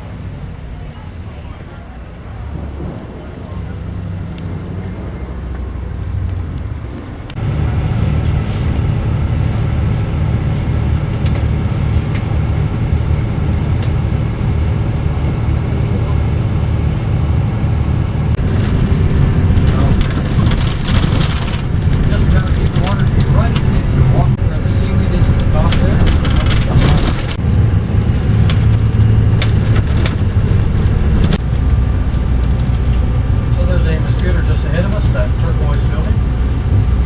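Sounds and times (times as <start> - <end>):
bus engine low rumble: 0.0 - 37.0.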